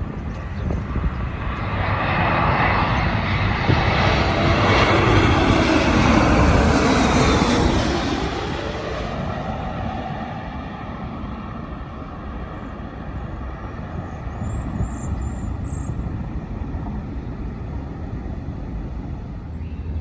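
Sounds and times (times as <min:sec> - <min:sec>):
jet airliner rumble: 0:00.0 - 0:20.0.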